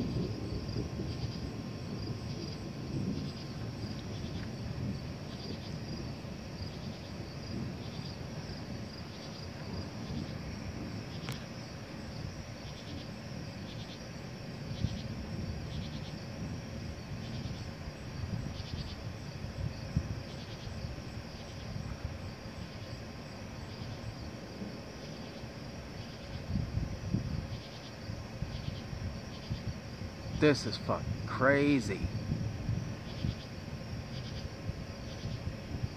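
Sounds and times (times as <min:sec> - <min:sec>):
night insects chirping: 0:00.0 - 0:35.9.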